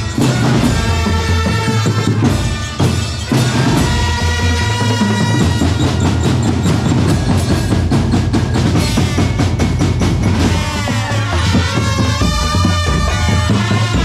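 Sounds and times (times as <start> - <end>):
drum band music: 0.0 - 14.0
fast drum strokes: 0.0 - 14.0.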